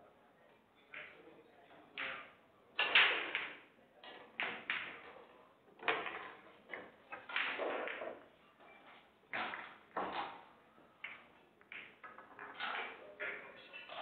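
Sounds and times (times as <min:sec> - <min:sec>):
pool balls clacking and knocking: 0:00.8 - 0:14.0.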